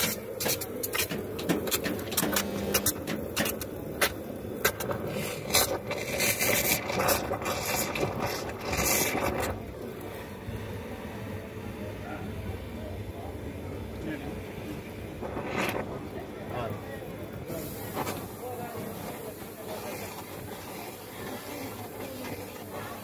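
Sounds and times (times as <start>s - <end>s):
steam pipe frothing milk: 0.0s - 23.0s.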